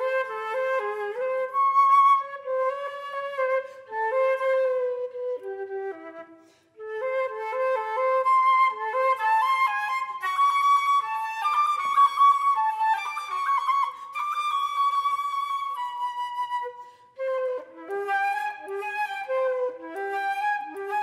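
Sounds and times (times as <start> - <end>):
solo flute playing: 0.0 - 21.0.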